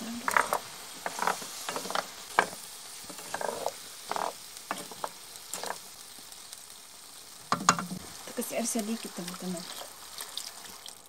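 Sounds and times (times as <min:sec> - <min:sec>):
wooden spoon scraping skillet: 0:00.0 - 0:06.3, 0:07.5 - 0:10.8
food sizzling: 0:00.0 - 0:11.0.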